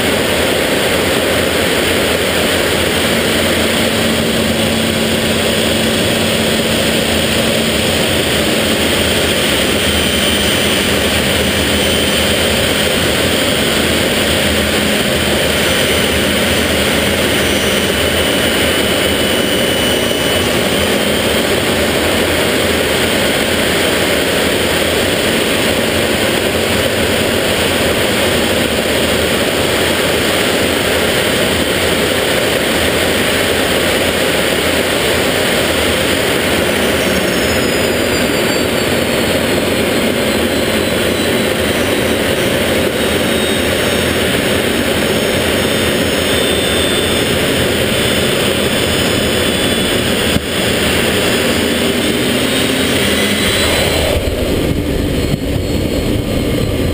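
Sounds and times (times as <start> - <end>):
faint high whine: 0.0 - 56.9
jet engine and airflow rushing: 0.0 - 56.9.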